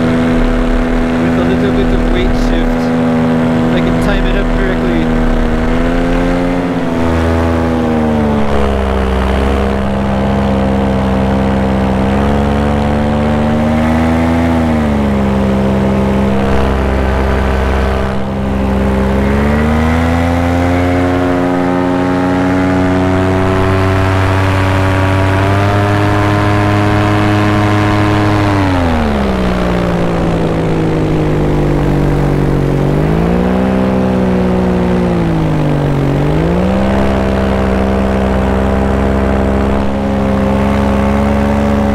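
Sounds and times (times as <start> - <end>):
paramotor engine running: 0.0 - 41.9.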